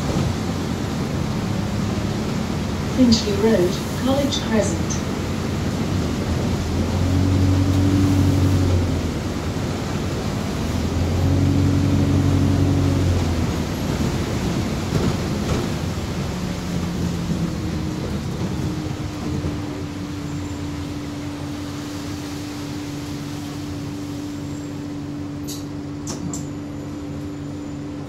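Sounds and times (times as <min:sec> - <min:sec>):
bus drivetrain and road noise: 0:00.0 - 0:28.0.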